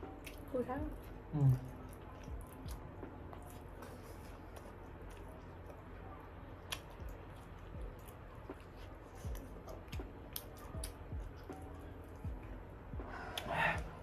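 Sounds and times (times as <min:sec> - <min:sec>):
chewing and mouth sounds: 0:00.1 - 0:14.0.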